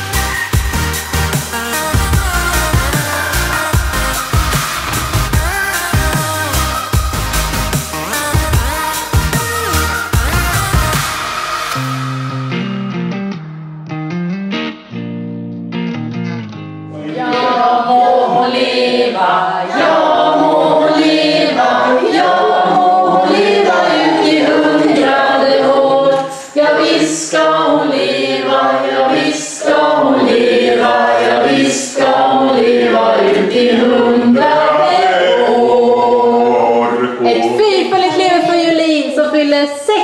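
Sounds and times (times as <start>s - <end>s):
group singing unaccompanied: 1.6s - 11.8s, 17.0s - 38.8s.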